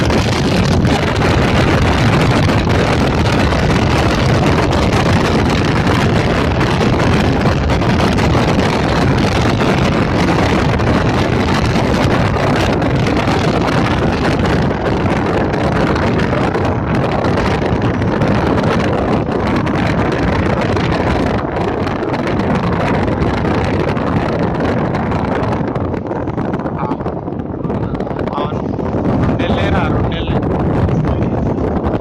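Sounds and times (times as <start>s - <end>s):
car road noise: 0.0s - 32.0s
wind buffeting microphone: 0.0s - 32.0s.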